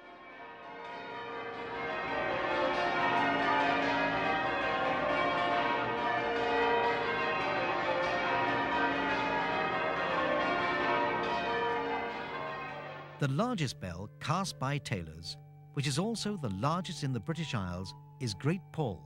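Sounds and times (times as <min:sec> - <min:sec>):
church bells ringing: 0:00.0 - 0:19.0.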